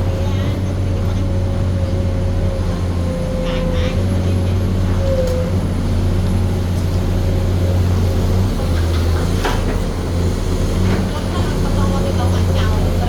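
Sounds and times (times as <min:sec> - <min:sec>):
deep excavator engine hum: 0:00.0 - 0:13.0.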